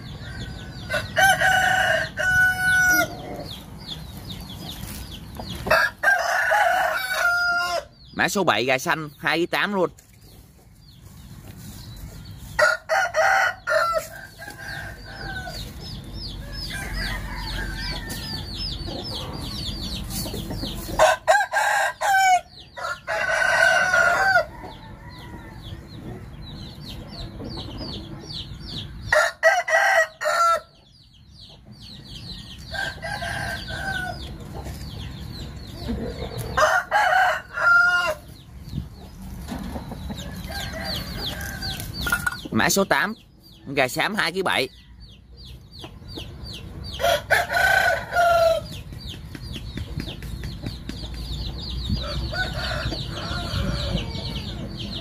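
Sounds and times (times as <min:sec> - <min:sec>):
roosters crowing: 0:00.0 - 0:10.0, 0:11.1 - 0:27.3, 0:27.9 - 0:31.0, 0:32.4 - 0:45.4, 0:46.5 - 0:49.1, 0:51.4 - 0:55.0
chickens clucking: 0:00.0 - 0:55.0.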